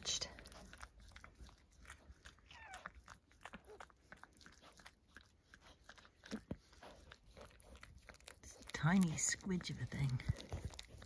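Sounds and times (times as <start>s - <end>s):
dog licking puppy wet clicks: 0.0s - 11.0s.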